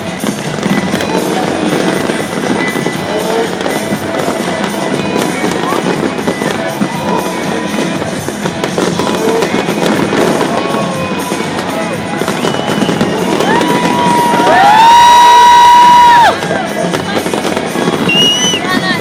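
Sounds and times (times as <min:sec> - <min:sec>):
crowd noise: 0:00.0 - 0:19.0
fireworks bursting and crackling: 0:00.0 - 0:19.0
fireworks whistling: 0:00.0 - 0:19.0
loud steady tone: 0:00.0 - 0:19.0.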